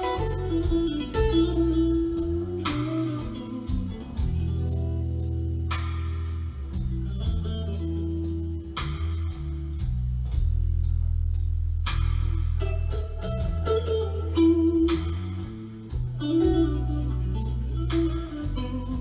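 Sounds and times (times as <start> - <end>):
electric guitar: 0.0 - 9.5, 12.6 - 19.0
bass line: 0.0 - 19.0
steady drum beat: 0.0 - 19.0.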